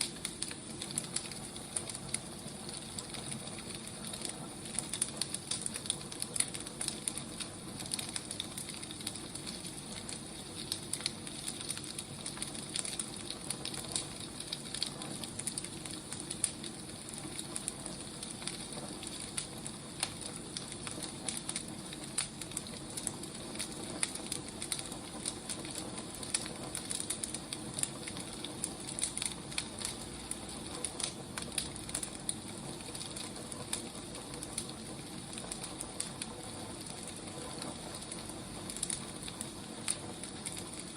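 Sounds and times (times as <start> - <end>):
fire crackles and pops: 0.0 - 40.9
firewood burning hiss: 0.0 - 40.9.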